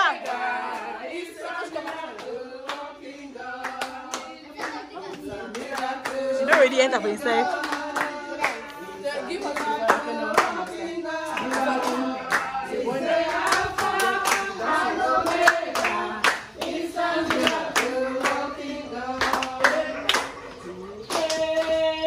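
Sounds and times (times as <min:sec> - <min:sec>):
hands clapping rhythm: 0:00.0 - 0:22.0
women singing gospel chorus: 0:00.0 - 0:22.0.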